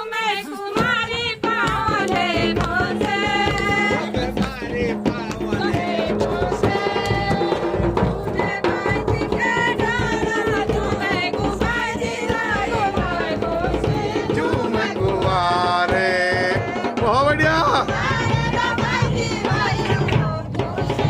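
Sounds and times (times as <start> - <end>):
steady drumming: 0.7 - 21.0.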